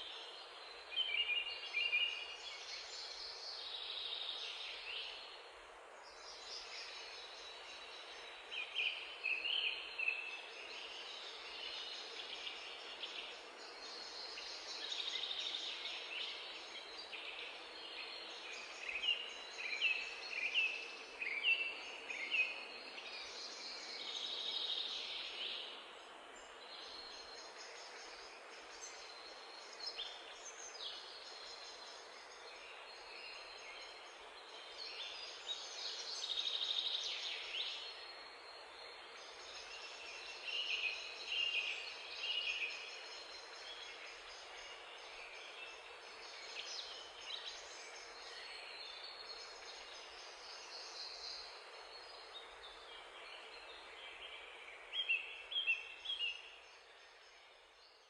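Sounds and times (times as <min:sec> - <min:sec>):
songbirds singing and calling: 0:00.0 - 0:58.0
steady background hiss: 0:00.0 - 0:58.0.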